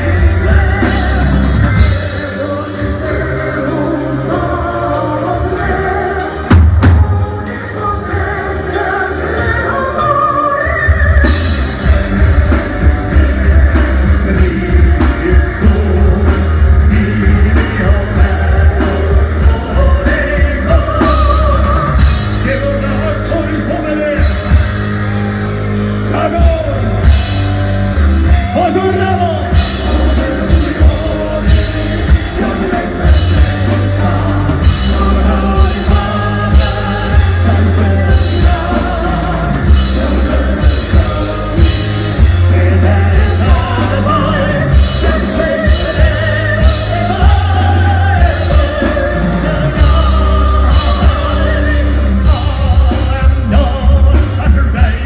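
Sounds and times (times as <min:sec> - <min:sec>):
metal band playing live: 0:00.0 - 0:55.0
sung vocals with vibrato: 0:00.0 - 0:55.0.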